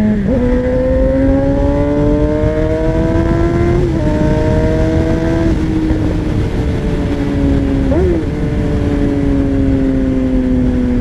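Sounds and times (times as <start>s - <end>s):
motorcycle engine accelerating: 0.0s - 11.0s
wind rush on microphone: 0.0s - 11.0s.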